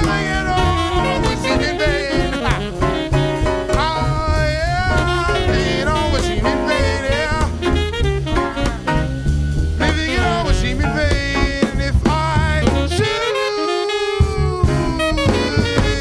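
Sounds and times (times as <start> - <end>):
jazz combo playing swing ballad: 0.0 - 16.0.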